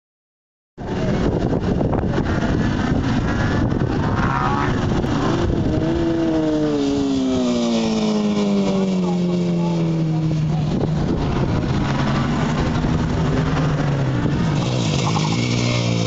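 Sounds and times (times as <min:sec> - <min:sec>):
motorcycle passing by: 0:00.8 - 0:16.0
racing motorcycle engines: 0:00.8 - 0:16.0
steady rushing noise: 0:00.8 - 0:16.0.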